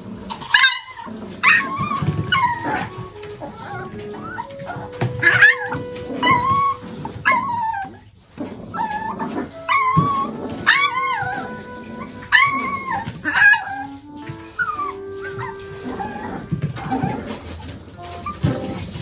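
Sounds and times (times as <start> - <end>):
puppy shrieking: 0.3 - 18.6.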